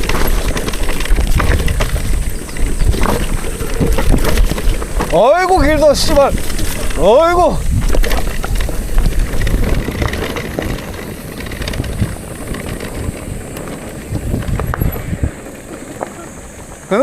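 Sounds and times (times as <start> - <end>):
bicycle rattling over rough road: 0.0 - 17.0
clicks from tyres and bike: 0.0 - 17.0
wind buffeting microphone: 0.0 - 17.0.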